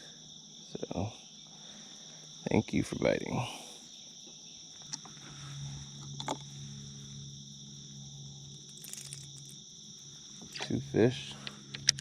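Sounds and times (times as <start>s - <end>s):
insects trilling: 0.0s - 12.0s
low steady hum: 0.0s - 12.0s.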